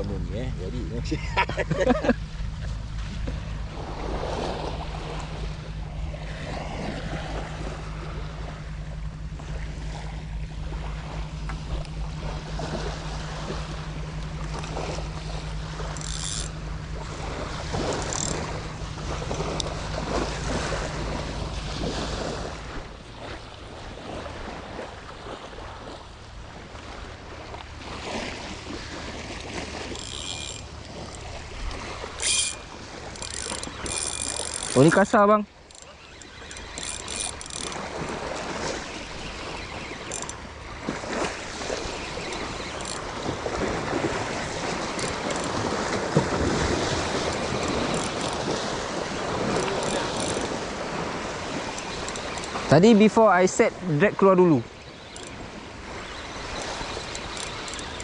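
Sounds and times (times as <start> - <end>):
light surf: 0.0 - 58.0
low engine drone: 0.0 - 58.0
wind: 0.0 - 58.0.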